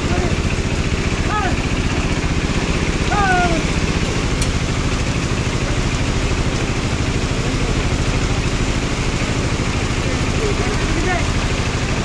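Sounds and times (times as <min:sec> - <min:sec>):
heavy rain on flooded road: 0:00.0 - 0:12.0
motorcycle engine idling: 0:00.0 - 0:12.0.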